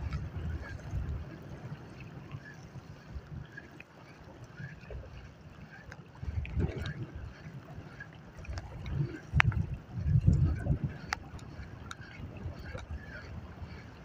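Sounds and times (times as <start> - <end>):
sea water lapping: 0.0 - 14.0
wind rumbling on microphone: 0.0 - 14.0.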